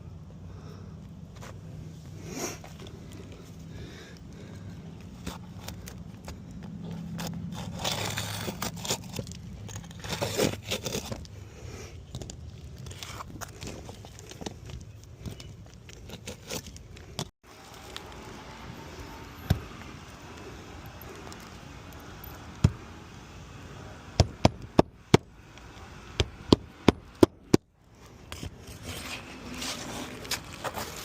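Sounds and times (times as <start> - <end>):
faint steady background noise: 0.0 - 31.0.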